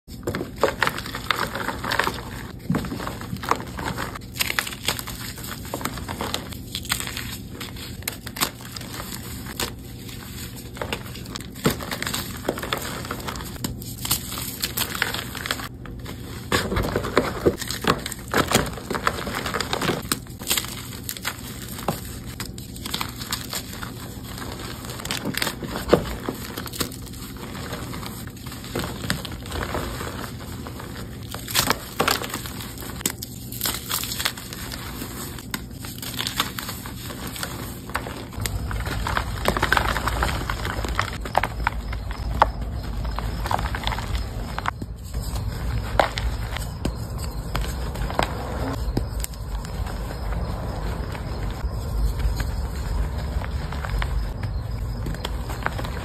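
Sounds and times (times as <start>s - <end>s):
chalk blocks crunching and crumbling: 0.1s - 56.0s.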